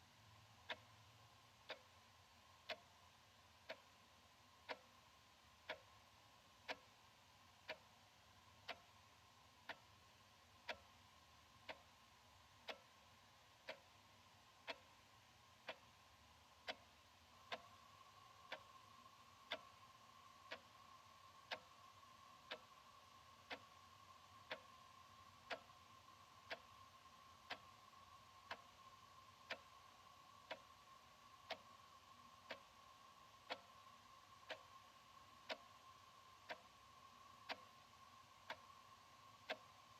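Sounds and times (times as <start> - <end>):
faint steady hum: 0.0 - 39.9
wall clock ticking: 0.0 - 39.9.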